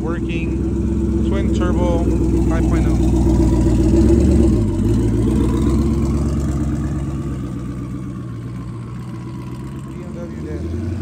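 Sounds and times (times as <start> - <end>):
car exhaust pulling off: 0.0 - 11.0.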